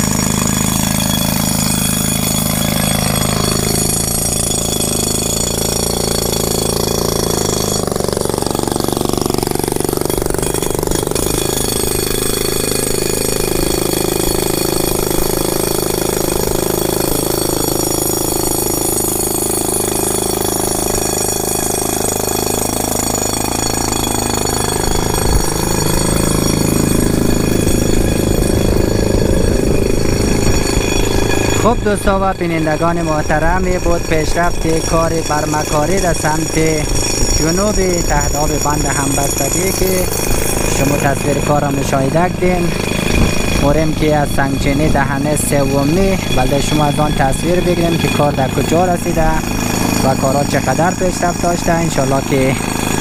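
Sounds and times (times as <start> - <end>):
rock drill hammering: 0.0 - 53.0.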